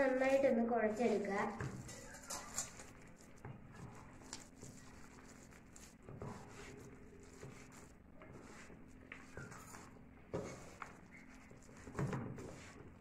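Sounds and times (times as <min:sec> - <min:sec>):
hand kneading batter squishing: 0:00.0 - 0:13.0.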